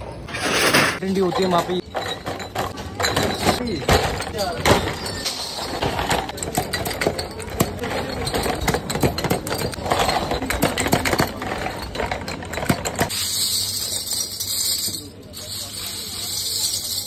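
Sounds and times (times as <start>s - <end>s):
metal bottle caps jingling: 0.0s - 17.0s.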